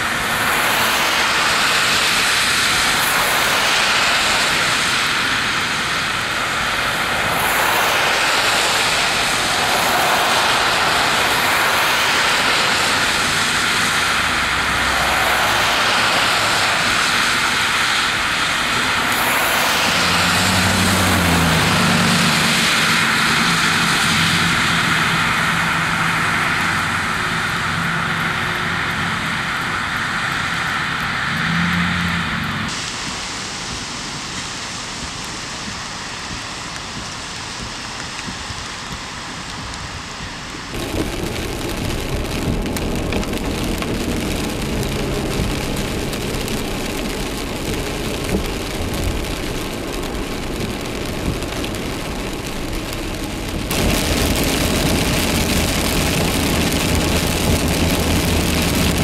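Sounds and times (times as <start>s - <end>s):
tyres spraying through water: 0.0s - 59.0s
vehicle engine low hum: 0.0s - 59.0s.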